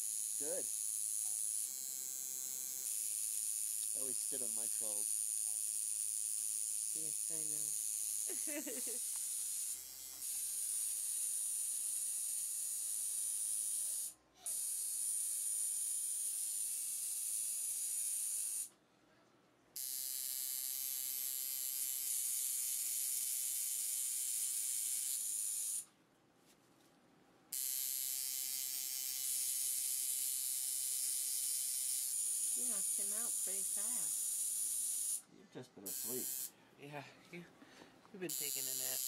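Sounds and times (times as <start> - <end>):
tattoo machine buzzing: 0.0 - 18.7, 19.8 - 25.9, 27.5 - 36.5, 38.2 - 39.0.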